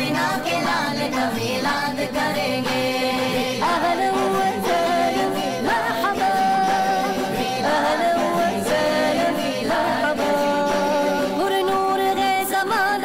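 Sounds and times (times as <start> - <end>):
person singing devotional song: 0.0 - 13.0.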